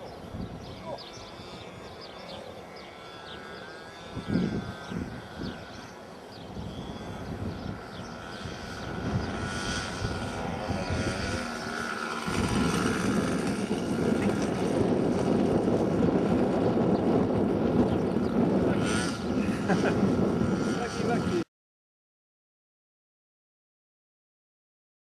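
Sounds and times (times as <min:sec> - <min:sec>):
wind buffeting microphone: 0:00.0 - 0:21.4
model plane engine droning: 0:00.0 - 0:21.5.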